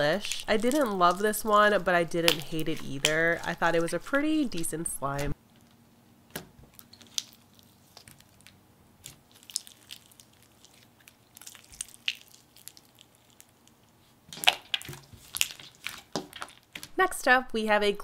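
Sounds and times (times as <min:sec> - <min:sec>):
slime squelching: 0:00.0 - 0:05.4, 0:06.7 - 0:17.0.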